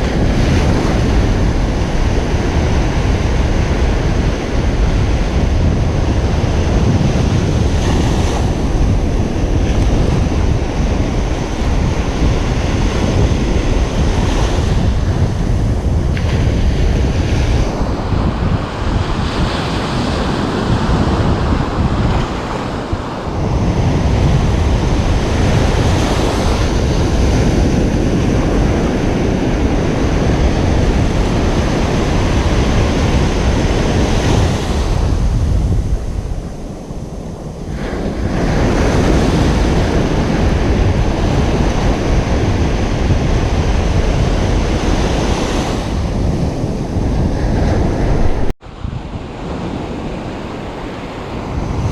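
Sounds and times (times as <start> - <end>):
ocean surf breaking: 0.0 - 51.9
wind rumbling on microphone: 0.0 - 51.9.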